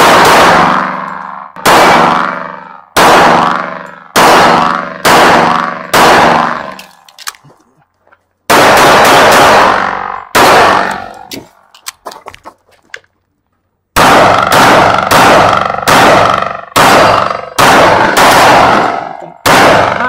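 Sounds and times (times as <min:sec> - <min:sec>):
pistol shots echoing: 0:00.0 - 0:07.4, 0:08.5 - 0:11.6, 0:13.9 - 0:20.0.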